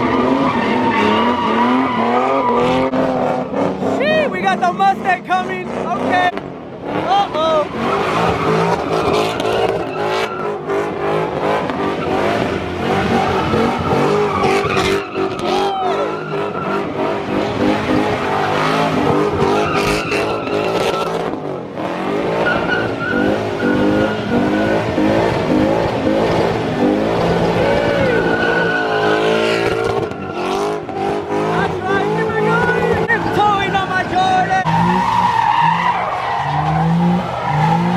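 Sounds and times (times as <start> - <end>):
car engine revving: 0.0 - 37.9
tyres squealing and skidding: 0.0 - 37.9.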